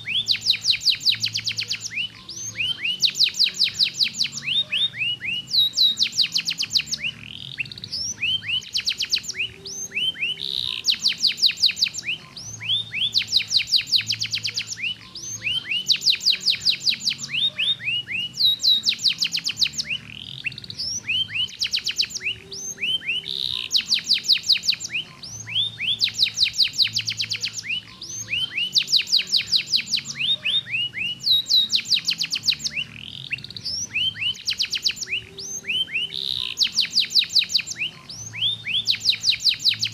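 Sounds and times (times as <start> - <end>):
canary singing trills and whistles: 0.0 - 39.9.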